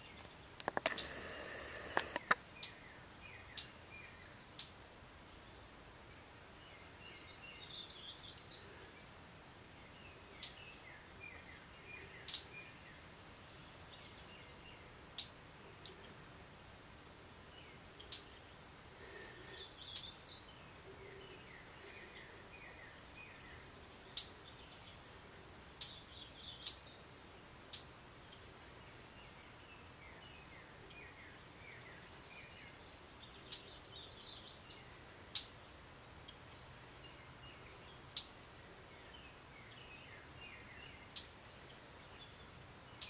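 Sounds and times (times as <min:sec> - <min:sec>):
small birds chirping: 0:00.0 - 0:43.0
soft steady hiss: 0:00.0 - 0:43.0.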